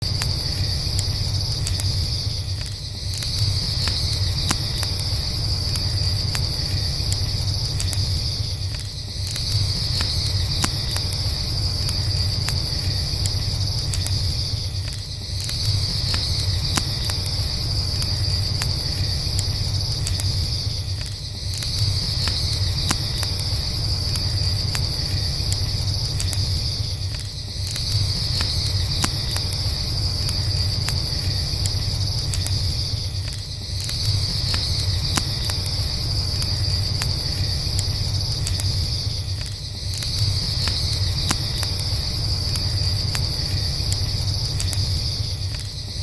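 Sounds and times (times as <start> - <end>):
campfire crackling and popping: 0.0 - 46.0
crickets chirping: 0.0 - 46.0.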